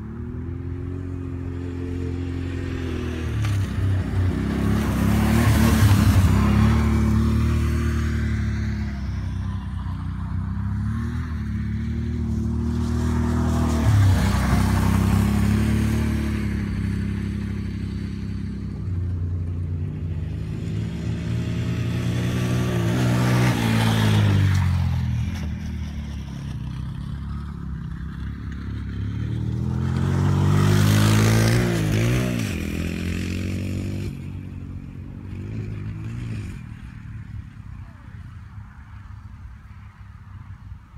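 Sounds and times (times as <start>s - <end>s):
atv engines revving past: 0.0s - 40.9s.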